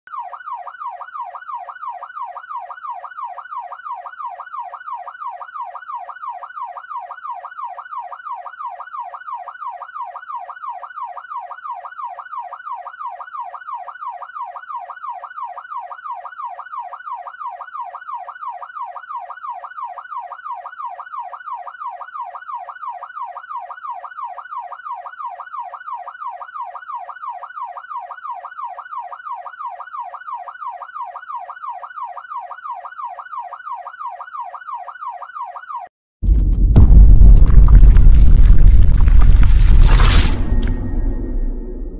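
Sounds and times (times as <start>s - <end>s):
police siren yelping: 0.1s - 37.2s.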